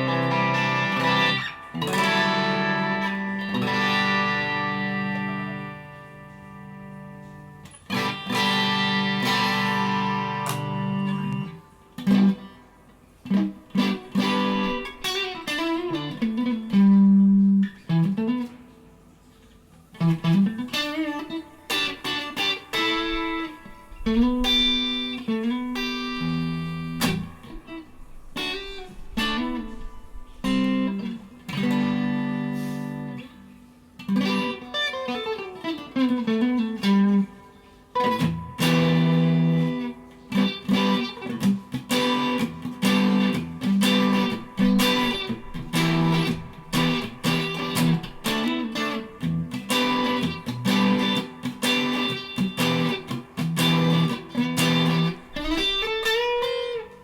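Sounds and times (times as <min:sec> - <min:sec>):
electric guitar notes and chords: 0:00.0 - 0:57.0.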